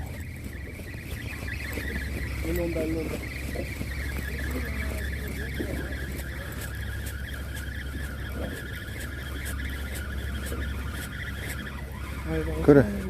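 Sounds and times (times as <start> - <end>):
boat engine humming: 0.0 - 13.0
rapid fine ticking: 0.0 - 13.0.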